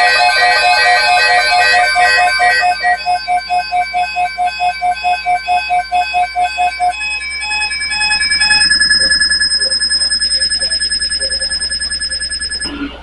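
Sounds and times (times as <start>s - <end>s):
repeating alarm beeps: 0.0s - 12.9s
high pulsing electronic tone: 1.4s - 12.8s.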